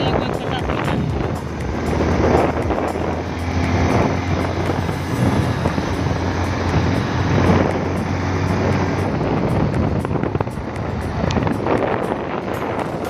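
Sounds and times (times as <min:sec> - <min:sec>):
motorcycle engine hum: 0:00.0 - 0:13.0
wind rushing over microphone: 0:00.0 - 0:13.0.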